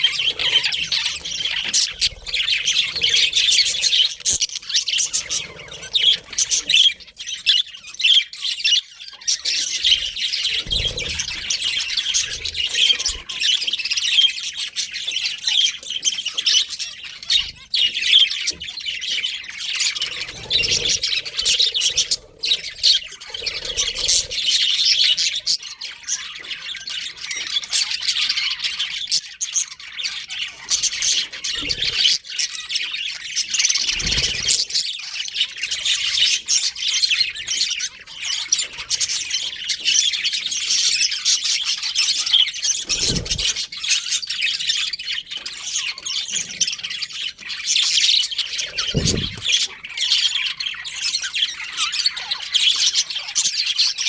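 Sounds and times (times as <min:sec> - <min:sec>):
bird squawks: 0:00.0 - 0:54.0
budgerigars chirping: 0:00.0 - 0:54.0.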